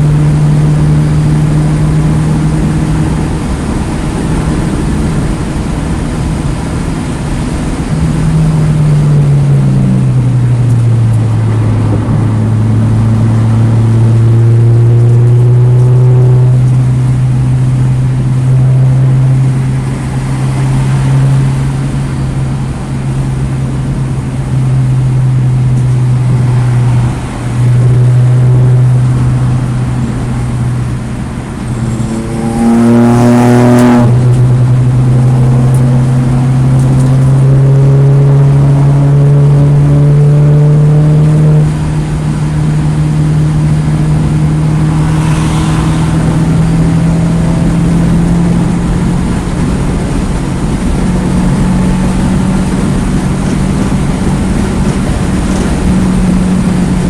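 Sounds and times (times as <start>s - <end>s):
race car engine drone: 0.0s - 57.0s.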